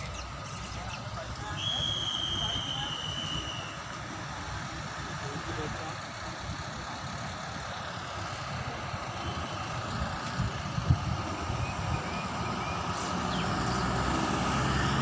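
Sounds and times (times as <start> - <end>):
bus engine rumbling: 0.0 - 15.0
outdoor street noise: 0.0 - 15.0.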